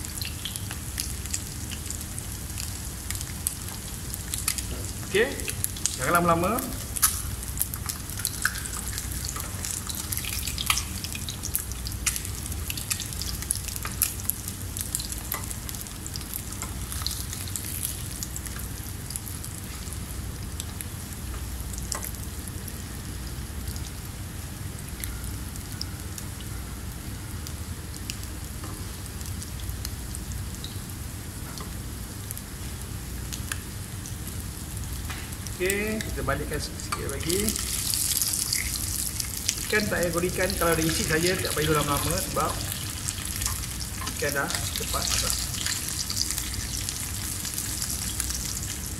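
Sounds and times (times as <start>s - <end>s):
fish sizzling in hot oil: 0.0s - 48.9s.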